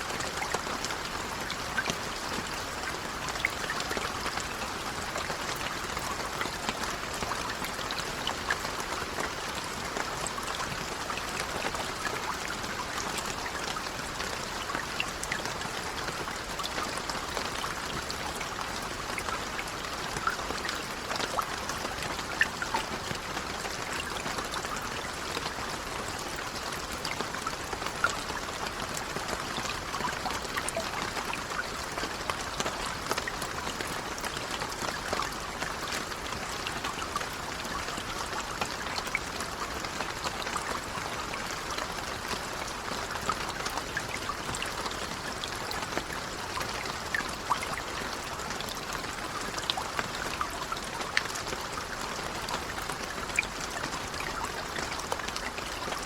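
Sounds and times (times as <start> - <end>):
steady gentle rain: 0.0 - 56.0.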